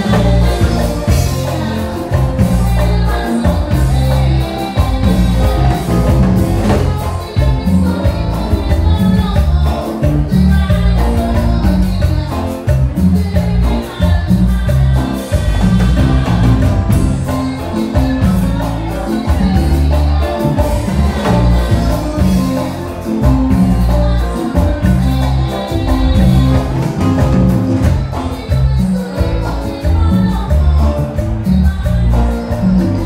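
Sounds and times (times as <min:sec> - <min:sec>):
live band playing cumbia: 0:00.0 - 0:33.0
prominent bass line: 0:00.0 - 0:33.0.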